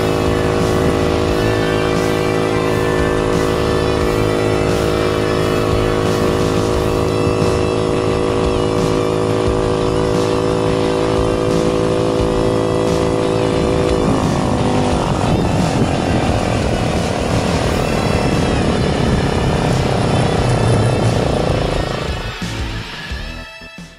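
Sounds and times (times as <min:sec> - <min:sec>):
go-kart engine running at high speed: 0:00.0 - 0:23.3.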